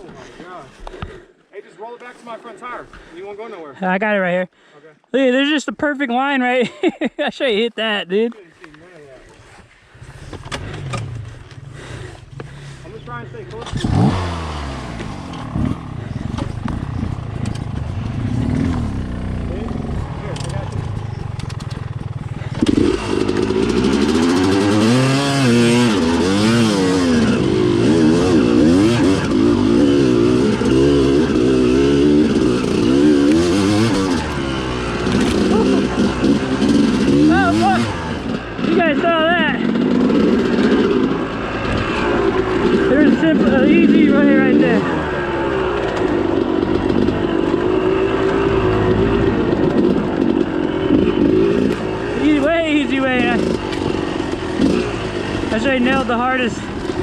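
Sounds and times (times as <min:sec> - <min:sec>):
dirt bike engine revving: 0:10.0 - 0:57.0.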